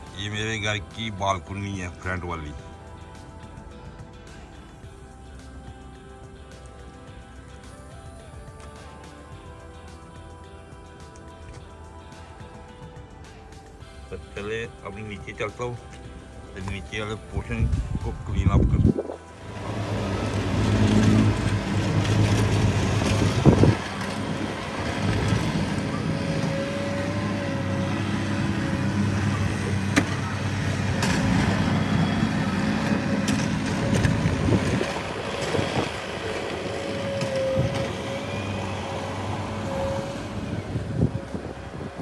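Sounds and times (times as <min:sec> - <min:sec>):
engine running: 0:00.0 - 0:42.0
wavering whine: 0:00.0 - 0:42.0.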